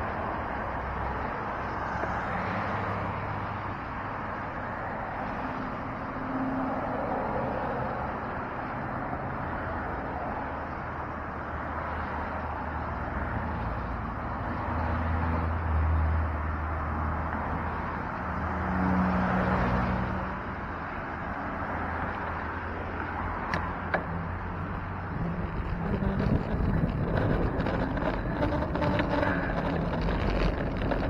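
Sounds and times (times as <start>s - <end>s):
motor vehicle hum: 0.0s - 31.0s
outdoor traffic rush: 0.0s - 31.0s.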